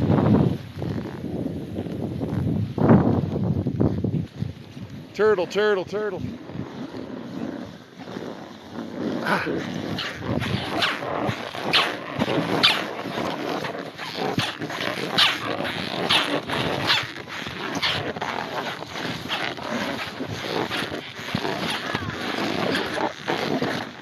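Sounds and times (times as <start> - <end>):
snowboard scraping on snow: 0.0 - 24.0.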